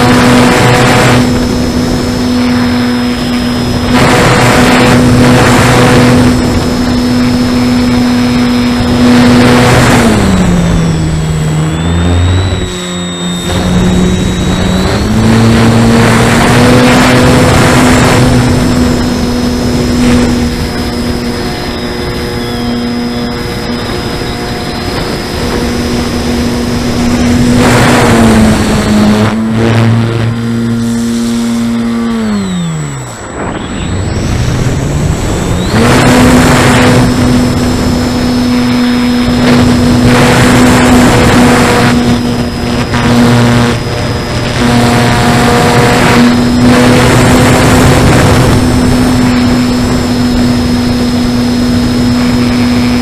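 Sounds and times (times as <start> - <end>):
electric motor and propeller whine: 0.0 - 53.0
wind rushing over microphone: 0.0 - 53.0.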